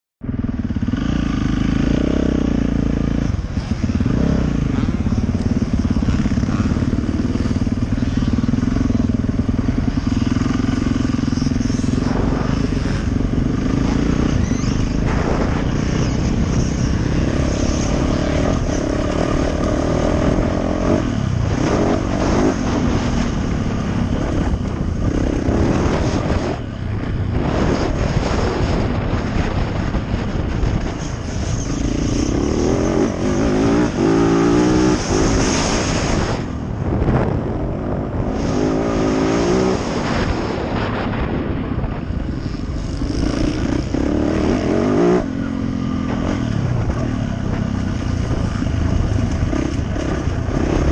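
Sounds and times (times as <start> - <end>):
motorcycle engine revving: 0.2 - 50.9.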